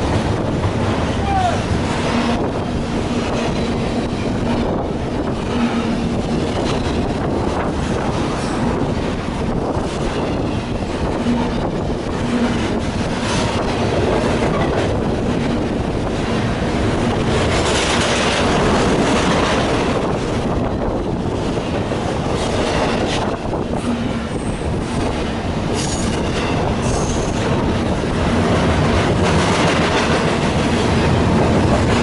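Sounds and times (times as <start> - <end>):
steel wheels rumbling on rail: 0.0 - 32.0
clatter over rail joints: 1.7 - 25.1, 25.7 - 32.0.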